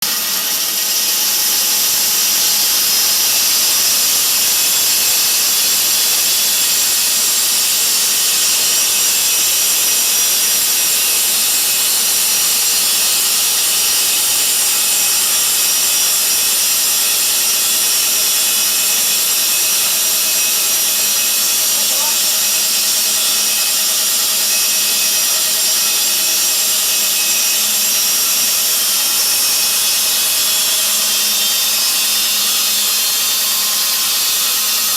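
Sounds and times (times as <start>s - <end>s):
band saw cutting wood: 0.0s - 34.9s.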